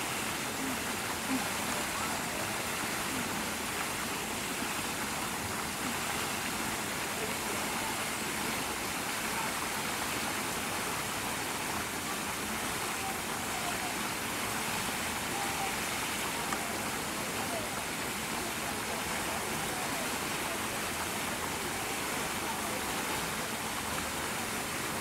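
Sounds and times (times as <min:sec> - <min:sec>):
water hissing: 0:00.0 - 0:25.0.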